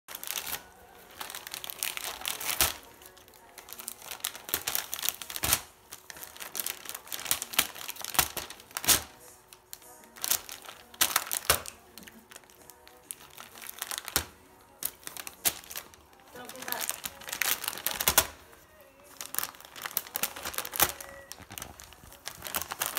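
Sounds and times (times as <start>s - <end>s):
foil wrap crinkling and tearing: 0.1s - 22.9s.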